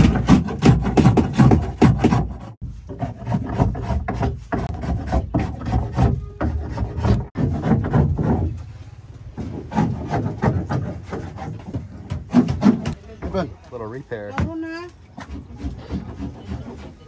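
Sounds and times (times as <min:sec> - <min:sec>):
blade scraping wood: 0:00.0 - 0:13.5, 0:15.1 - 0:17.0.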